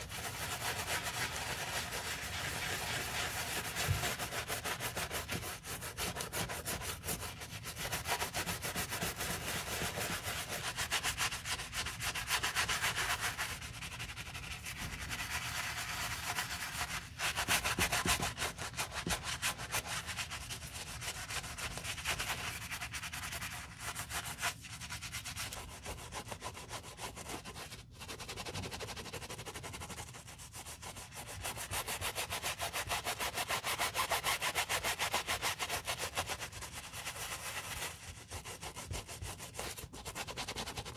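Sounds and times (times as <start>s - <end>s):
brush scrubbing fabric shoe: 0.0s - 40.9s.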